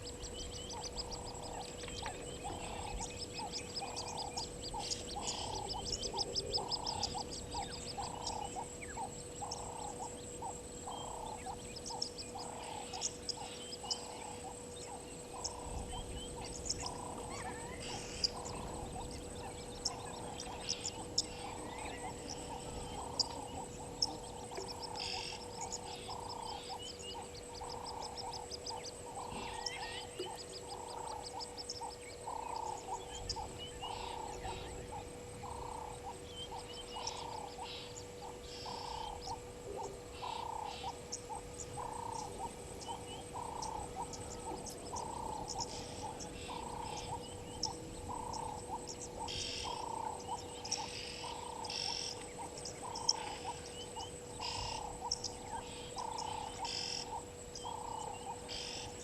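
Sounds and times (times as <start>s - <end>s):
birds chirping: 0.0s - 59.0s
frog croaking: 0.0s - 59.0s.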